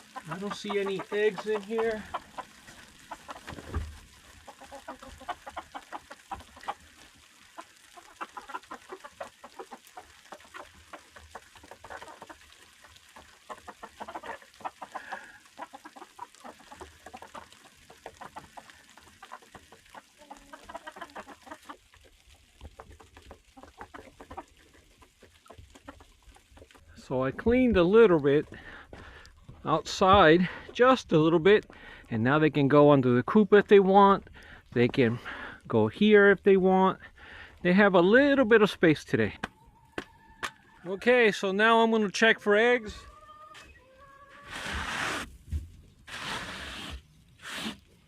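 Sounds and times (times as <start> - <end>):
chickens clucking: 0.0 - 31.8, 38.0 - 44.7.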